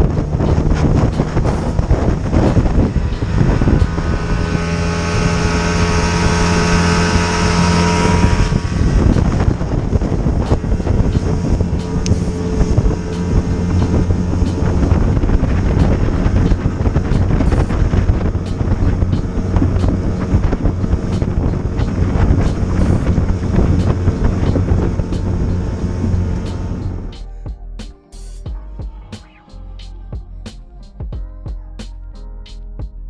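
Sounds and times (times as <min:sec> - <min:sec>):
outboard motor running: 0:00.0 - 0:27.1
wind buffeting microphone: 0:00.0 - 0:27.8.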